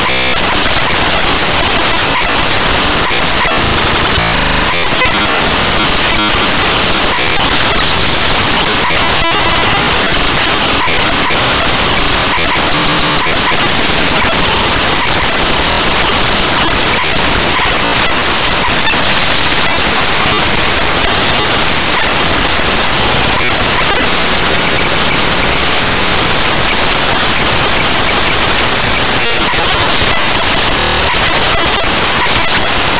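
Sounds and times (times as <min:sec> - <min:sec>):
harsh digital static noise: 0:00.0 - 0:32.9.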